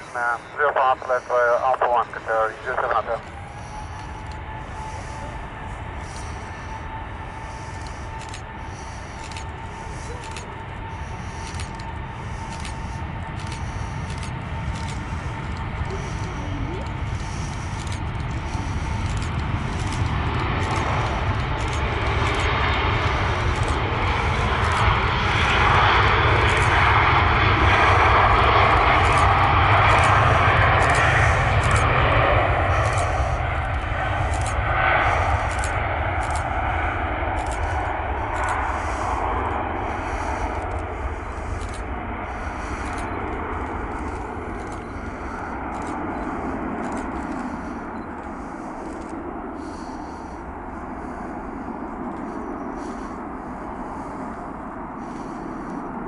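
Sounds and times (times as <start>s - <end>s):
jet airliner roar at takeoff: 0.0s - 56.0s.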